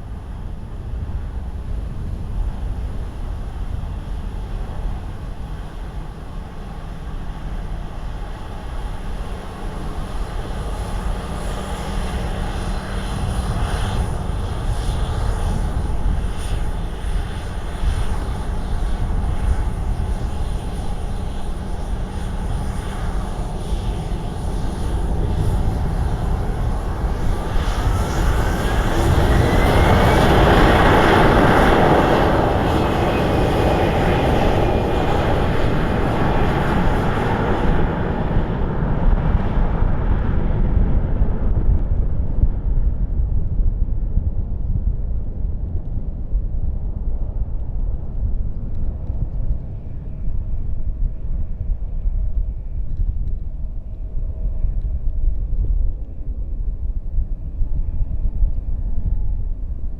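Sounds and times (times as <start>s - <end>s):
jet engines approaching: 0.0s - 59.9s
rising engine whine: 0.0s - 59.9s
wind buffeting microphone: 0.0s - 59.9s.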